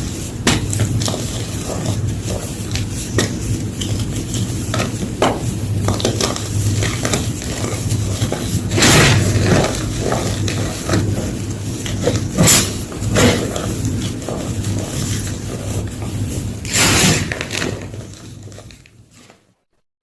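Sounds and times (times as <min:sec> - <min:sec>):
chalk crunching and crumbling: 0:00.0 - 0:19.4.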